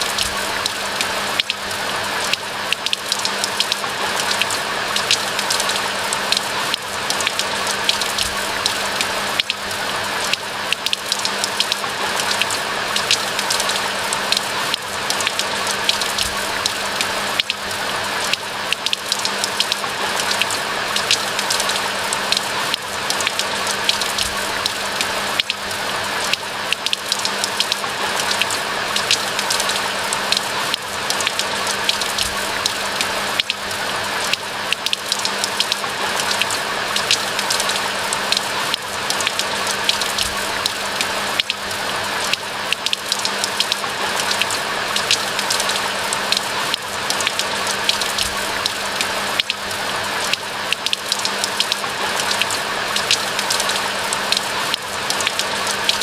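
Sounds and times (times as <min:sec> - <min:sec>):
close raindrops ticking: 0:00.0 - 0:56.0
steady rain in a forest: 0:00.0 - 0:56.0.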